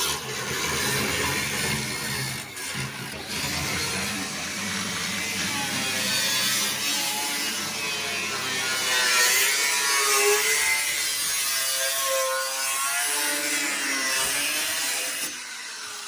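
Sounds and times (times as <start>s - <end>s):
power tool cutting sheet metal: 0.0s - 16.0s.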